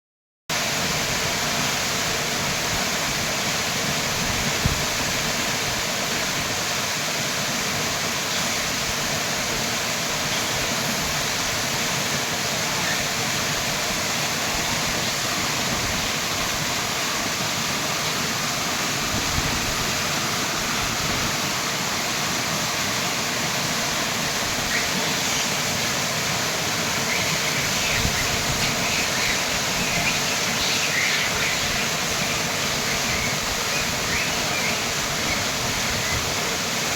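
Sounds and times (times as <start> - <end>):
small waterfall splashing: 0.5 - 36.9.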